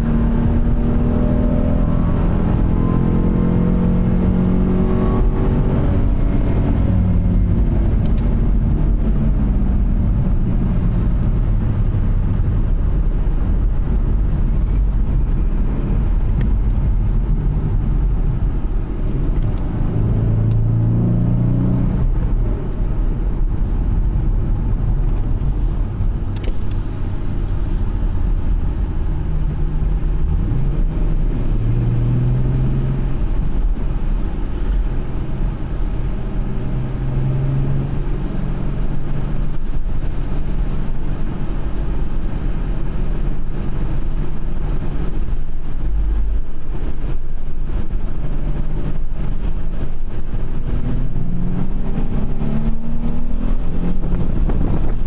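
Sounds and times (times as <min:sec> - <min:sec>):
car engine under light throttle: 0:00.0 - 0:55.0
tyre and road rumble: 0:00.0 - 0:55.0.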